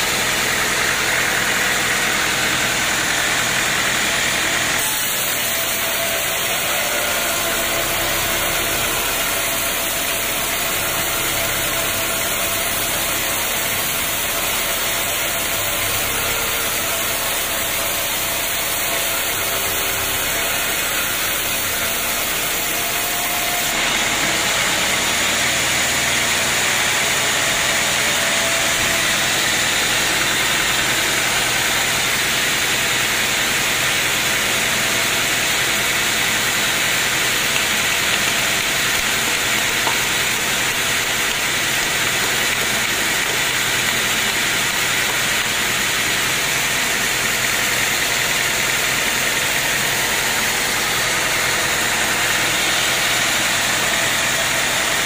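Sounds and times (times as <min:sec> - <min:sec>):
band sawmill hissing and humming: 0:00.0 - 0:55.0.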